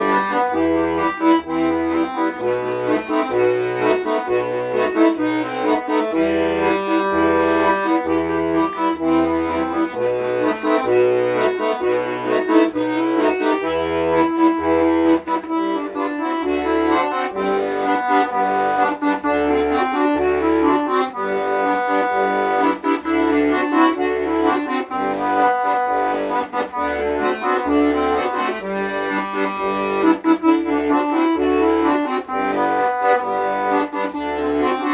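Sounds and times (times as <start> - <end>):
accordion playing: 0.0 - 34.9.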